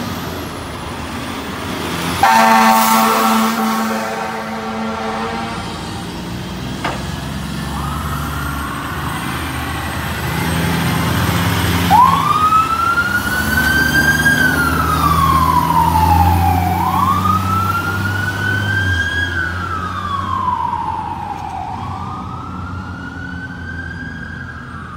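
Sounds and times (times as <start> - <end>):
diesel engine rumbling: 0.0 - 24.9
fire siren wailing: 1.9 - 6.6, 7.2 - 24.9
faint second siren: 2.2 - 6.4, 7.4 - 24.9.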